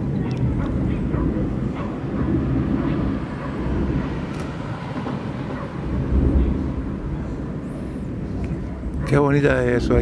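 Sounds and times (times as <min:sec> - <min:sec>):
low roar of erupting volcano: 0:00.0 - 0:10.0.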